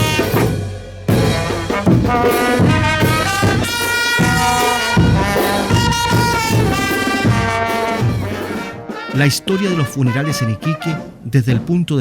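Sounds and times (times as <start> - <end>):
trumpets and trombones playing: 0.0 - 11.4
low drum beat: 0.0 - 12.0.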